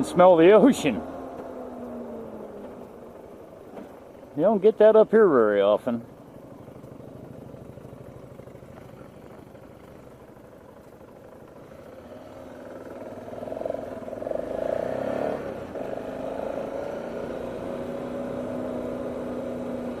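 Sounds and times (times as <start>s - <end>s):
road noise: 0.0s - 20.0s
vehicle engine hum: 0.0s - 20.0s.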